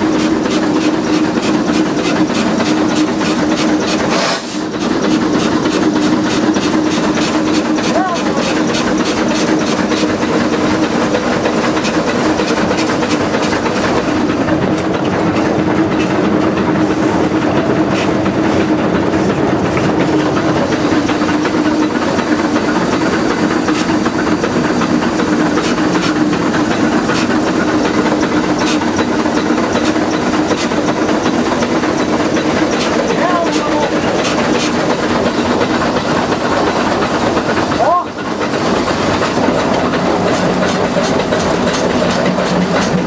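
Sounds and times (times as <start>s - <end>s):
steam hissing: 0.0s - 43.0s.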